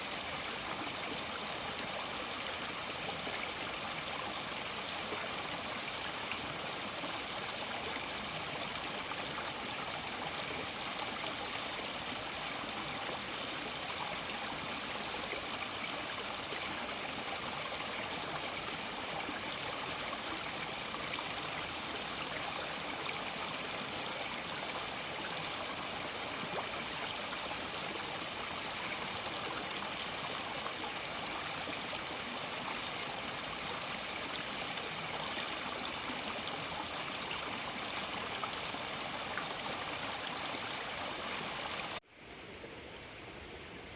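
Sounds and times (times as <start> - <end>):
stream water running over stones: 0.0 - 42.1.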